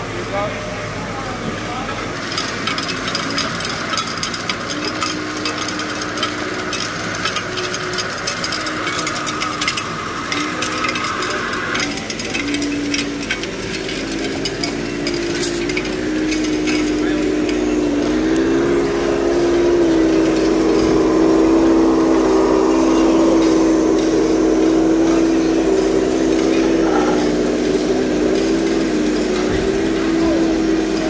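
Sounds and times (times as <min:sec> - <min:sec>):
motor hum: 0:00.0 - 0:31.0
fast irregular ticking clatter: 0:02.1 - 0:31.0.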